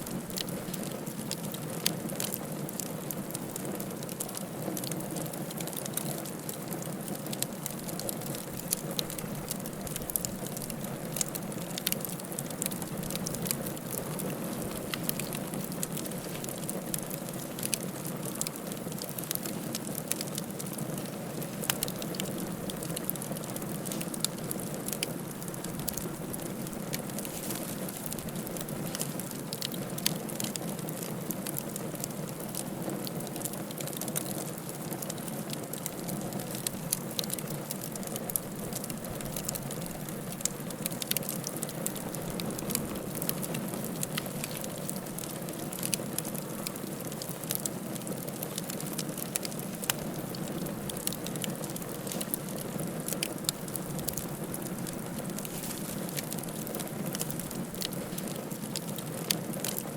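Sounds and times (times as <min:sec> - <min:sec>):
fire pops and snaps: 0:00.0 - 0:59.9.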